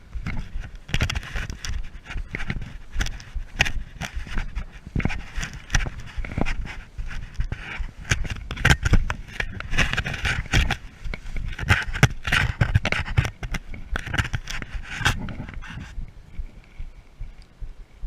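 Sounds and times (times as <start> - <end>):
footsteps crunching through brush: 0.0 - 17.0.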